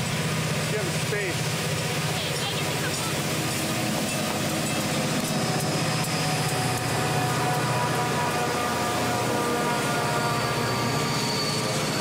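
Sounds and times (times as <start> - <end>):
diesel locomotive engine throbbing: 0.0 - 12.0.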